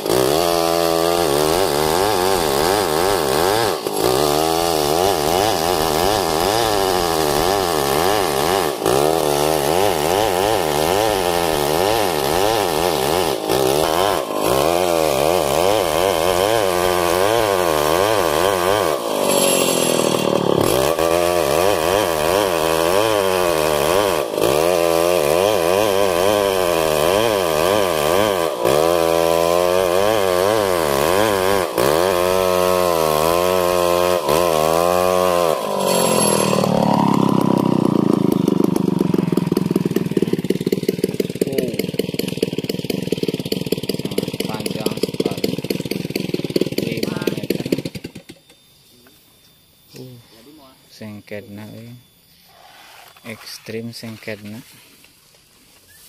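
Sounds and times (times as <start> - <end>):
chainsaw cutting log: 0.0 - 48.6.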